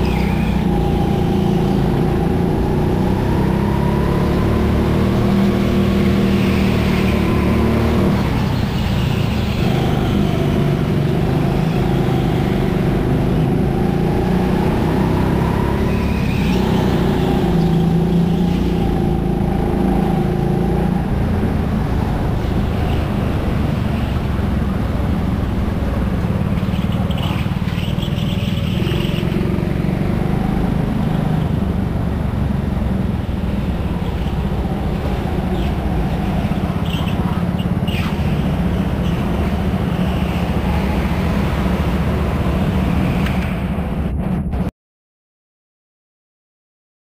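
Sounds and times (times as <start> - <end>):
go-kart engine drone: 0.0 - 44.7.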